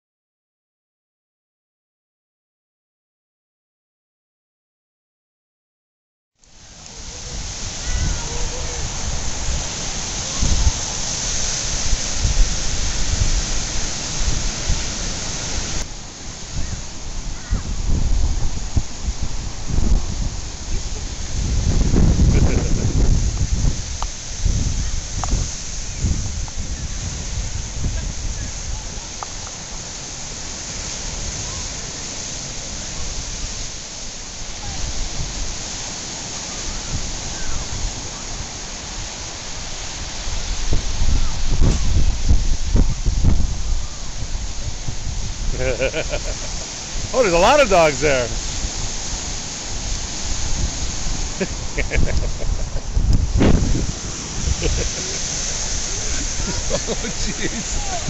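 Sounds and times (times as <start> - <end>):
surf breaking on sand beach: 6.4 - 58.0
wind on microphone: 6.6 - 58.0.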